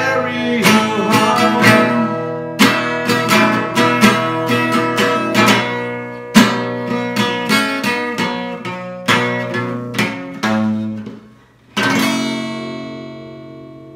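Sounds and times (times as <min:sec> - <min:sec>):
acoustic guitar strumming chords: 0:00.0 - 0:13.9.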